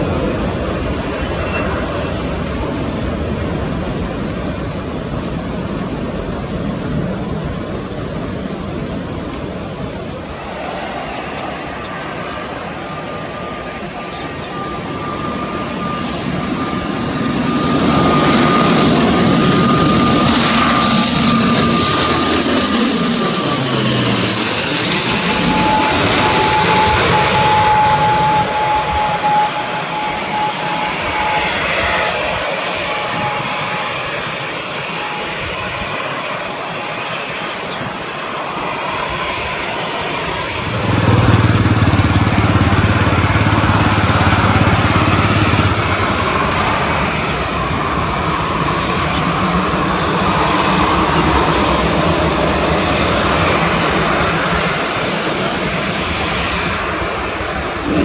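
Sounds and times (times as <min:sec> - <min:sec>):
jet engines idling: 0:00.0 - 0:58.0
turboprop plane passing overhead: 0:00.0 - 0:58.0.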